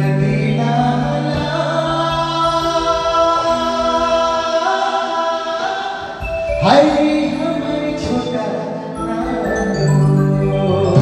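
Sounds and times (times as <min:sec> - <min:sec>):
live music with singing: 0:00.0 - 0:11.0.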